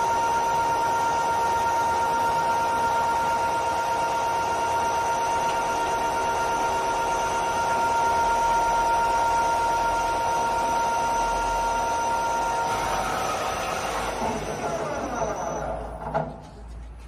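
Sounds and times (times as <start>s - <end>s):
lathe machining noise: 0.0s - 16.1s
steady machine whine: 0.0s - 17.0s.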